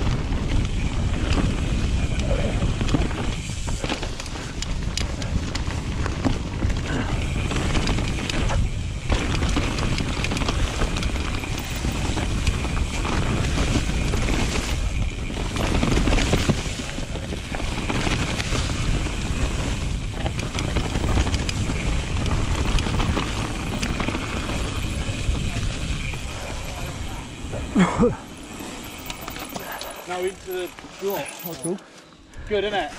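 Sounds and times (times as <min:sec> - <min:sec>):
wind buffeting microphone: 0:00.0 - 0:31.4
bike tyres rumbling and rattling: 0:00.0 - 0:32.9.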